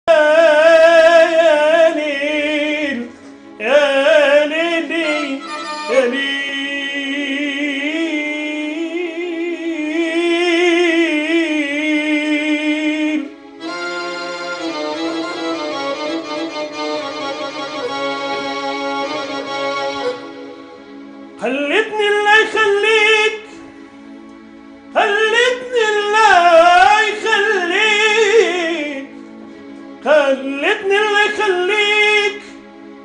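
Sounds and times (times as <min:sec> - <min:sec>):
man singing melismatic melody: 0:00.1 - 0:20.4, 0:21.4 - 0:23.7, 0:24.9 - 0:29.3, 0:30.0 - 0:32.6.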